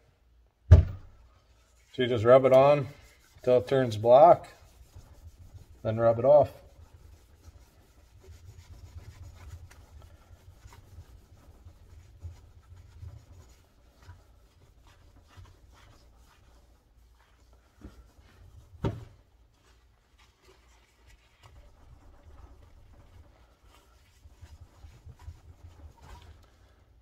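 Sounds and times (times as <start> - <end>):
paper towel rubbing metal: 1.4 - 27.0.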